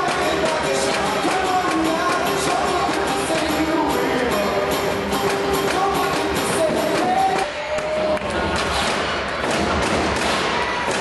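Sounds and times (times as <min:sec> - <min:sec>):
music with singing over loudspeakers: 0:00.0 - 0:11.0.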